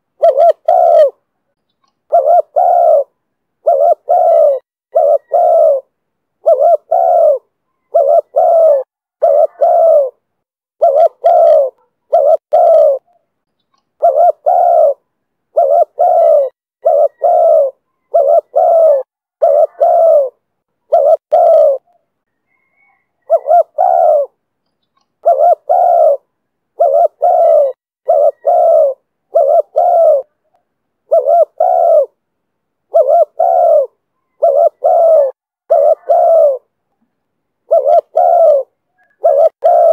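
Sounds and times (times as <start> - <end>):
dove cooing: 0.0 - 1.2, 2.1 - 13.2, 14.0 - 24.4, 25.2 - 32.2, 32.9 - 36.7, 37.7 - 39.9.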